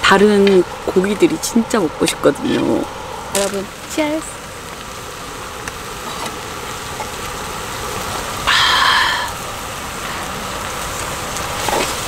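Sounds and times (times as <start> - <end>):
meat sizzling in a pan: 0.1 - 12.0.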